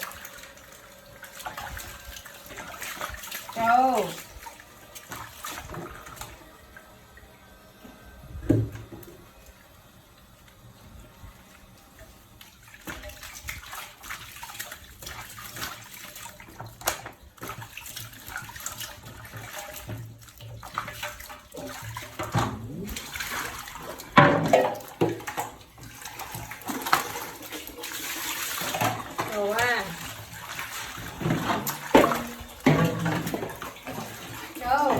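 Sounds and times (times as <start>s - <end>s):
water splashing in a tub: 0.0s - 7.7s, 8.4s - 34.9s.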